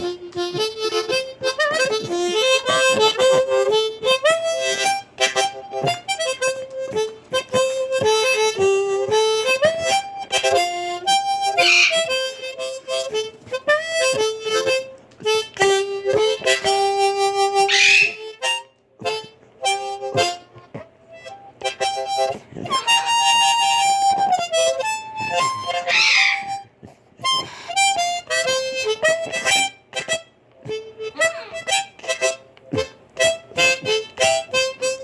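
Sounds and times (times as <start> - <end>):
blues harmonica: 0.0 - 35.0.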